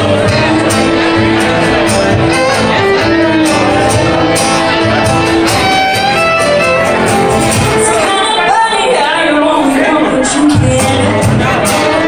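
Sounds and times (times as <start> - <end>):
strummed acoustic guitar: 0.0 - 9.0, 9.6 - 12.0
live band music: 0.0 - 12.0.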